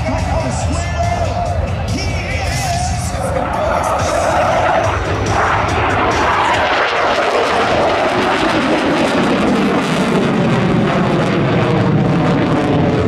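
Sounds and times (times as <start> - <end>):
aircraft engine in flight: 0.0 - 13.0.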